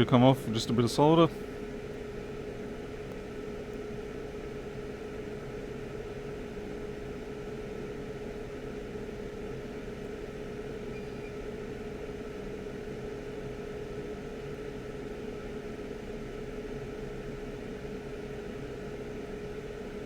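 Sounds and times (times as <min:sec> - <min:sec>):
electric fan hum: 0:00.0 - 0:20.0.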